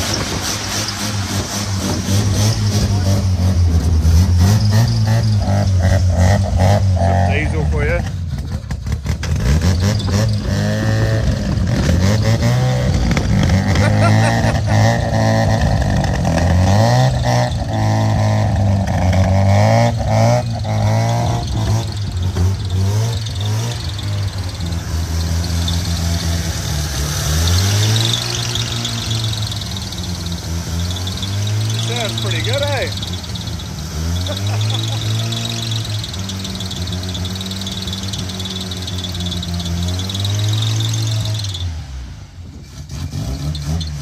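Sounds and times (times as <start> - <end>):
rotary engine revving: 0.0 - 44.0.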